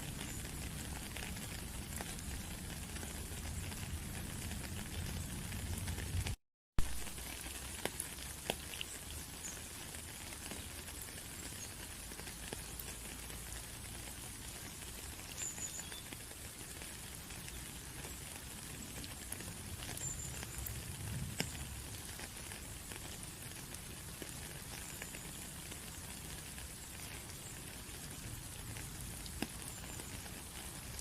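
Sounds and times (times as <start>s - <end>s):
steady rain patter: 0.0s - 31.0s.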